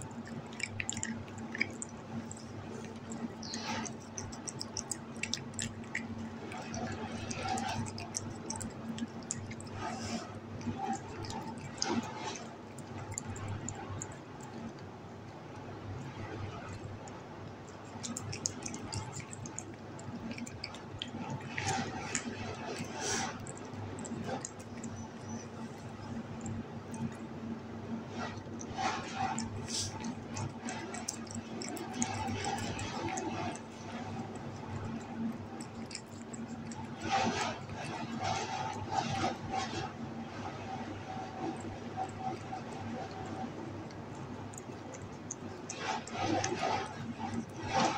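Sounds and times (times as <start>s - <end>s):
kitten chewing and licking: 0.0s - 47.9s
steady low hum: 0.0s - 47.9s.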